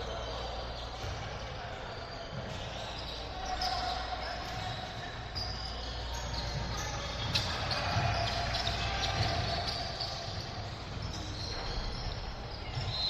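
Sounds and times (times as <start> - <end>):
gym crowd din: 0.0 - 13.0.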